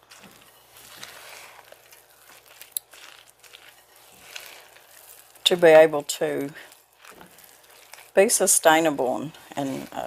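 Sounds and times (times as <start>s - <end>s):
spatula folding mashed potato: 0.0s - 10.0s.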